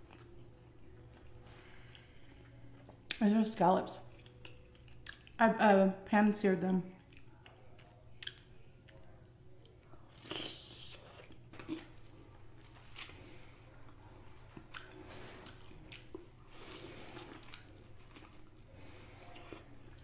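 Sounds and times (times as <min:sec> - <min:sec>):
person chewing seafood: 0:00.0 - 0:03.2, 0:04.1 - 0:05.4, 0:07.0 - 0:20.0.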